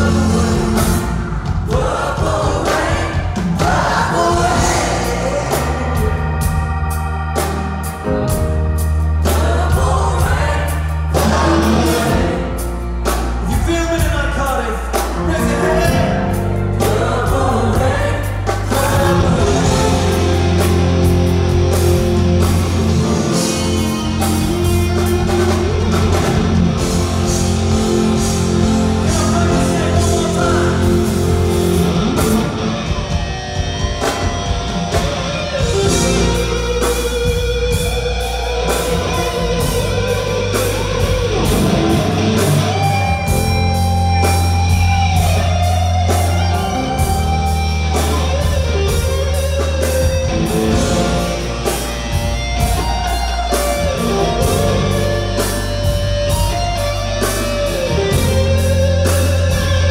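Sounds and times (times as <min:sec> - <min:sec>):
electric guitar sustained notes: 0:00.0 - 0:59.9
live rock band: 0:00.0 - 0:59.9.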